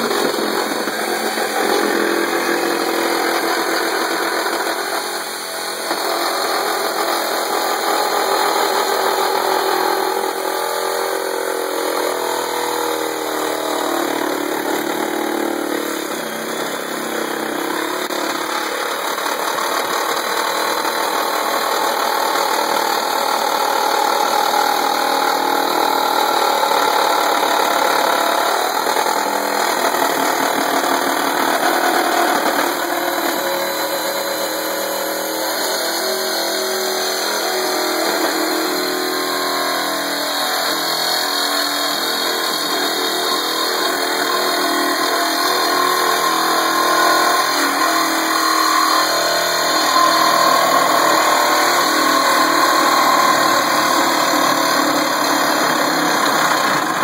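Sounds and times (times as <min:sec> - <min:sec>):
reciprocating saw cutting metal: 0:00.0 - 0:57.0.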